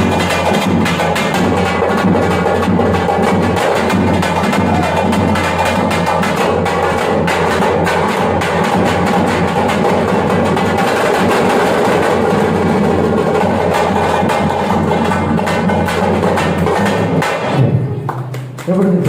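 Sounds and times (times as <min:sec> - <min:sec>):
frame drums beaten with sticks: 0:00.0 - 0:18.0.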